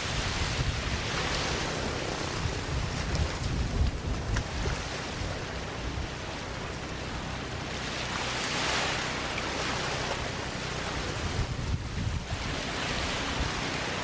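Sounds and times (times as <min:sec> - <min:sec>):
small waves washing onto sand: 0:00.0 - 0:14.0.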